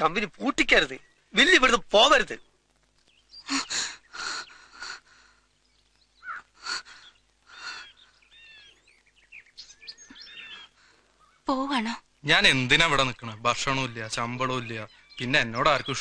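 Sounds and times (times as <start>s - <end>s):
birds chirping and calling: 2.4s - 16.0s.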